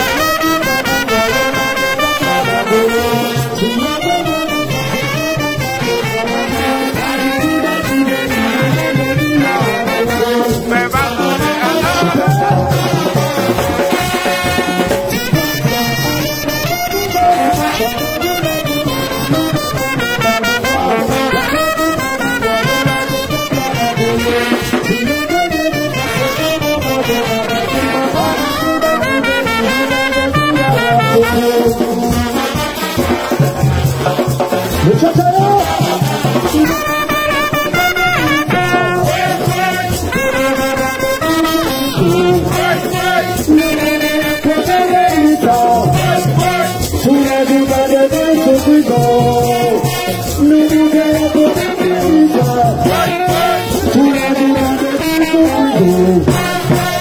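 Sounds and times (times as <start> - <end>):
brass band melody: 0.0 - 57.0
crowd singing along: 0.0 - 57.0.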